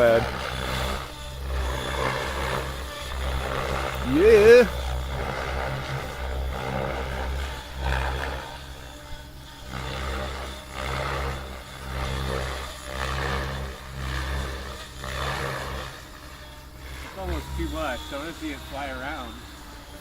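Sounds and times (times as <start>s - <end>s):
helicopter rotor blades whooshing: 0.0s - 20.0s
low drone: 0.0s - 20.0s.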